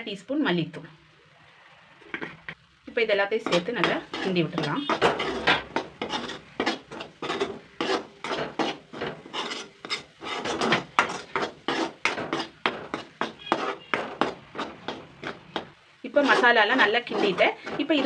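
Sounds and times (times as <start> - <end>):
paste scraped around a pan: 3.4 - 18.0.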